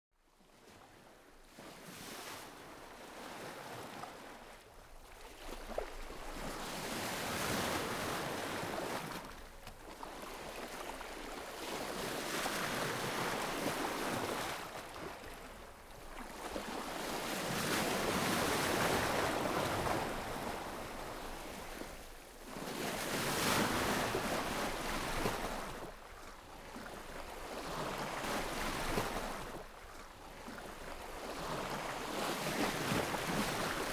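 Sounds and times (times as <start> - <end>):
sea waves washing onto shore: 5.0 - 33.9.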